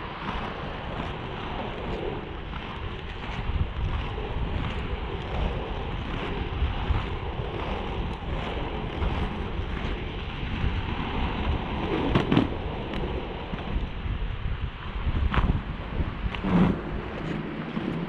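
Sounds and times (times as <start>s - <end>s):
skate wheels rolling on asphalt: 0.0s - 18.0s
wind buffeting microphone: 0.0s - 18.0s.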